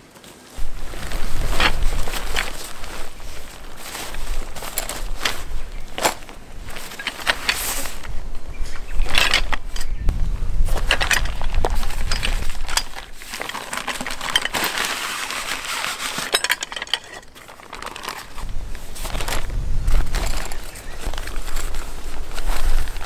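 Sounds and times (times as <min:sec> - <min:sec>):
tent fabric rustling: 0:00.0 - 0:23.0
metal tent poles clinking: 0:00.6 - 0:23.0.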